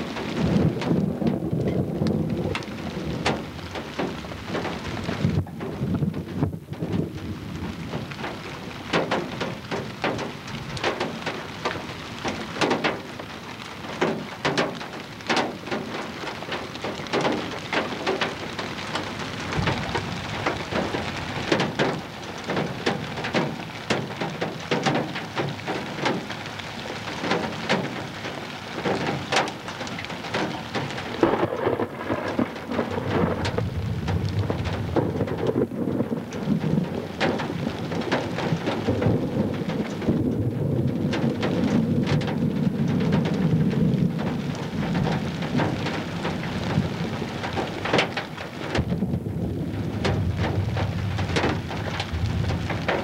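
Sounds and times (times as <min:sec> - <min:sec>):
storm wind buffeting microphone: 0:00.0 - 0:53.0.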